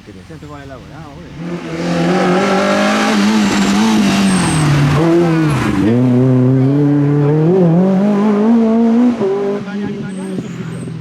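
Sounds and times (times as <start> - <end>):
rally car engine revving high: 0.0 - 11.0.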